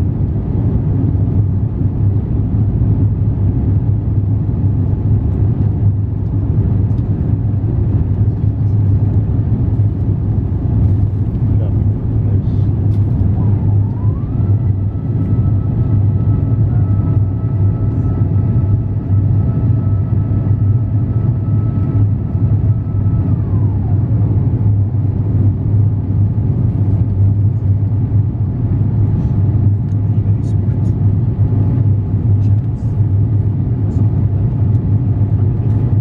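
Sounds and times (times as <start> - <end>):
airplane cabin rumble: 0.0 - 36.0
mechanical whine: 5.6 - 36.0.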